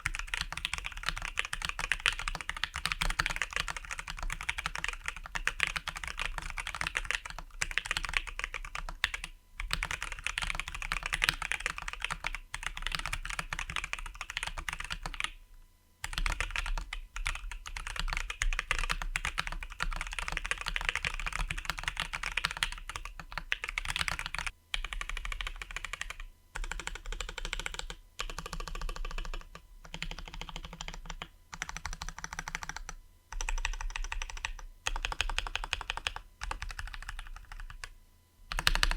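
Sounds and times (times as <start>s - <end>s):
fast typing on mechanical keyboard: 0.0s - 15.4s, 16.0s - 37.9s, 38.5s - 38.9s.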